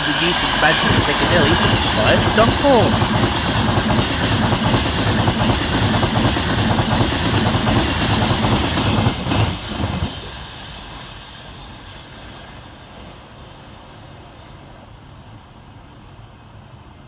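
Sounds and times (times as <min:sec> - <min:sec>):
electric train passing at speed: 0:00.0 - 0:17.0.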